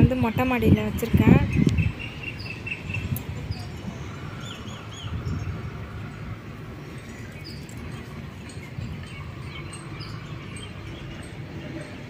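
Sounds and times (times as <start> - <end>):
low outdoor background noise: 0.0 - 12.0
small birds chirping: 0.0 - 12.0.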